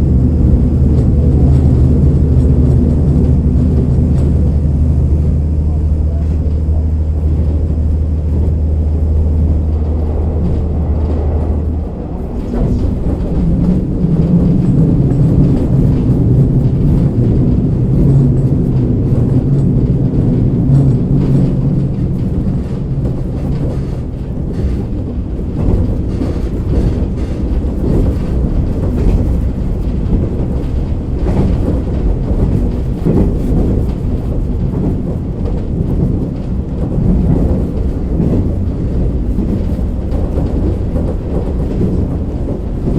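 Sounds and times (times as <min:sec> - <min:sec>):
muffled railcar engine hum: 0:00.0 - 0:42.9
train running rumble: 0:00.0 - 0:42.9.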